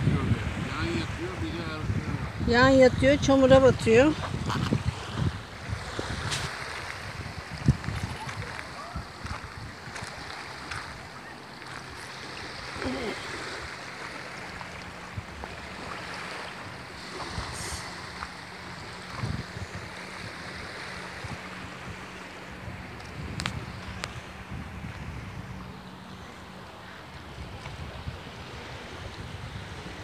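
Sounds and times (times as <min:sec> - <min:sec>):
wind on microphone: 0:00.0 - 0:12.1, 0:12.8 - 0:30.0
waves lapping on pebbles: 0:03.3 - 0:30.0.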